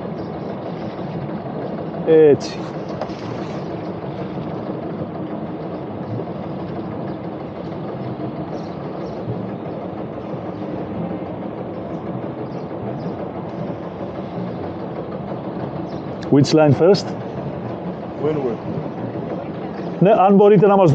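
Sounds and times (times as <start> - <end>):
boat engine rumbling: 0.0 - 20.9.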